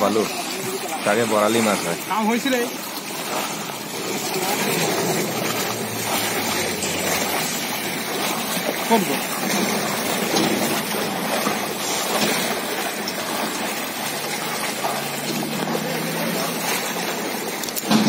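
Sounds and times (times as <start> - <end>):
shallow water splashing: 0.0 - 18.0.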